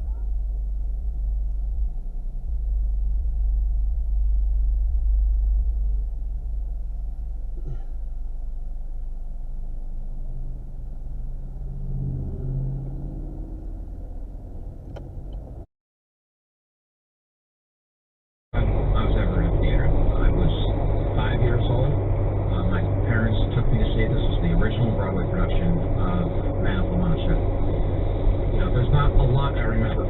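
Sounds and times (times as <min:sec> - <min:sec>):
car road and engine rumble: 0:00.0 - 0:15.7, 0:18.6 - 0:30.0.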